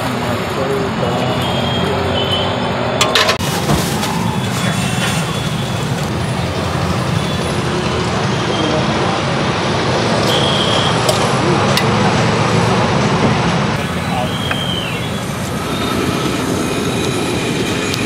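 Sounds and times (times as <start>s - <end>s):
road traffic roar: 0.0s - 18.0s.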